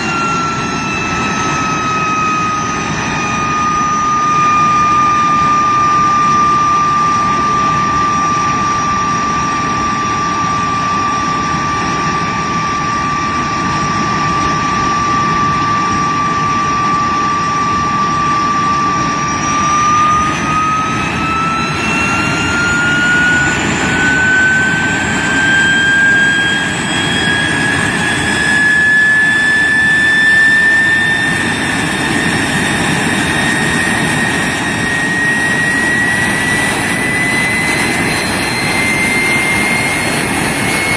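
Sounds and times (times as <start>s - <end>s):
jet engine whine: 0.0s - 40.9s.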